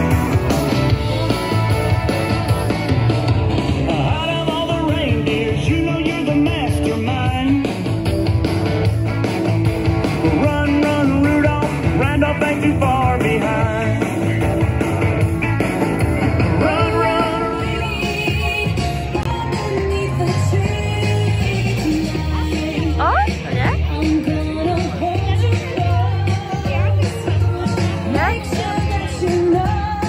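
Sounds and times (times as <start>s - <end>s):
rock song with singing: 0.0s - 30.0s.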